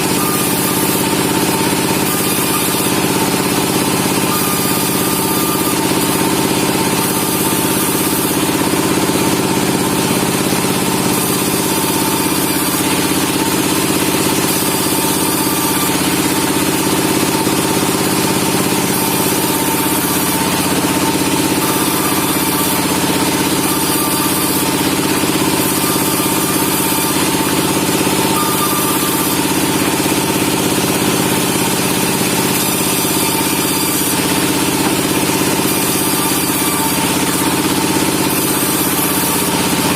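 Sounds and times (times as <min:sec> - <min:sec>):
sawmill saw humming: 0:00.0 - 0:39.9.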